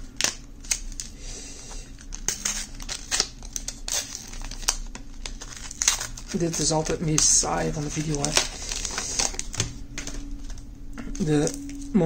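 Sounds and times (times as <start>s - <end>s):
plastic packaging tearing: 0.0s - 11.9s.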